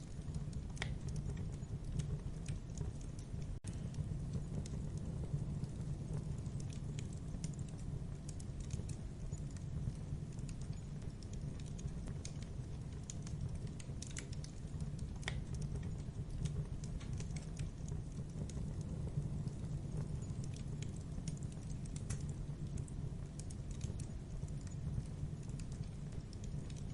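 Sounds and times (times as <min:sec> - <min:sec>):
fire roaring and crackling: 0:00.0 - 0:26.9.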